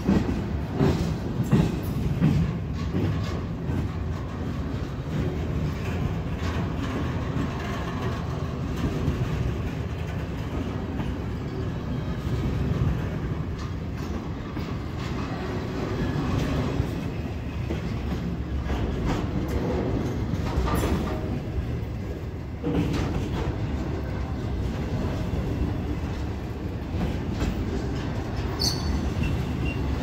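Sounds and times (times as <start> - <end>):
clacks of wheels on rail: 0.0 - 30.0
freight train cars rolling past: 0.0 - 30.0.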